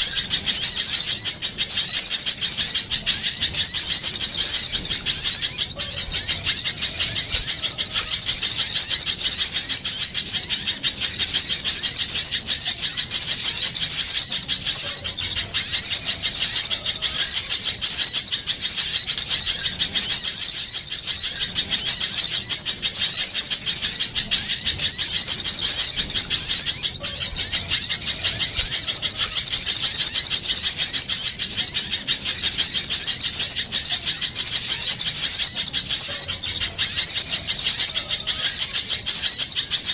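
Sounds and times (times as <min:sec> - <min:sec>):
small songbirds chirping chorus: 0:00.0 - 0:39.9.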